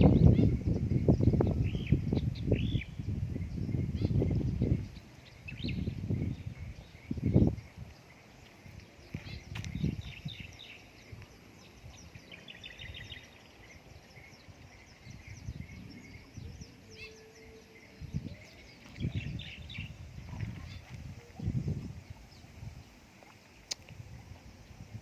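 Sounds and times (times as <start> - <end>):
birds chirping and trilling: 0.0 - 23.7.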